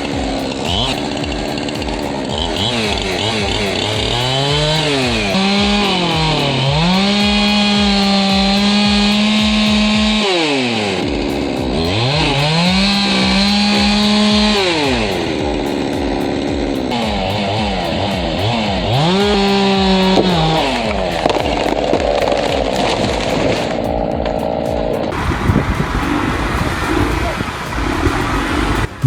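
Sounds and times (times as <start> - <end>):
chainsaw revving: 0.0 - 29.0.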